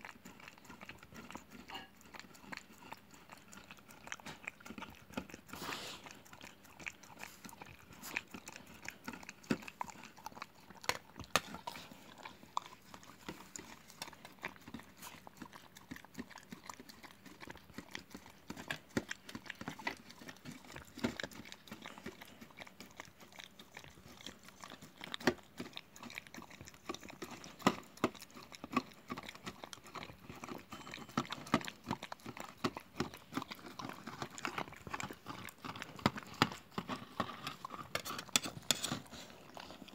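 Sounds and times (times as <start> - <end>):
dog licking from plastic tub: 0.0 - 39.9.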